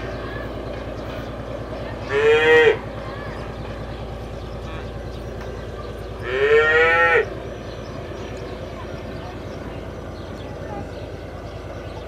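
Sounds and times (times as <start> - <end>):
diesel engine throbbing: 0.0 - 12.0.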